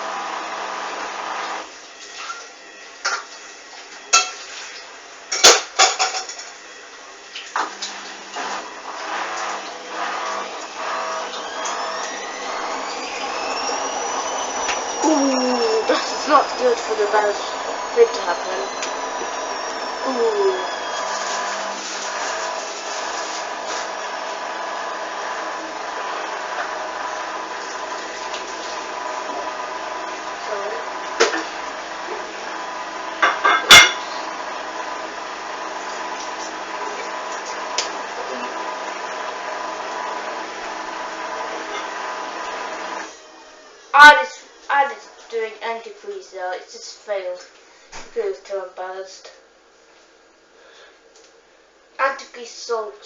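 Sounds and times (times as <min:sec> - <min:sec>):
washing machine motor whirring: 0:00.0 - 0:53.0.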